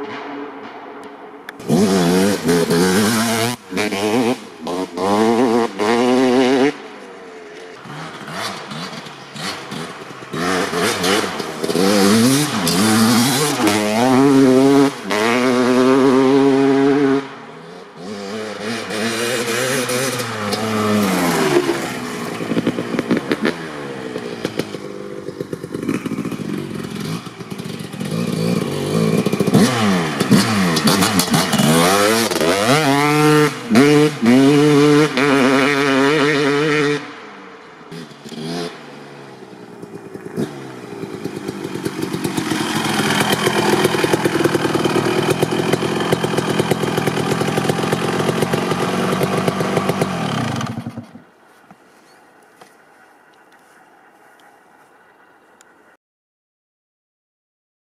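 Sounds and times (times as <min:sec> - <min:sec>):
dirt bike engine revving: 0:01.4 - 0:51.3.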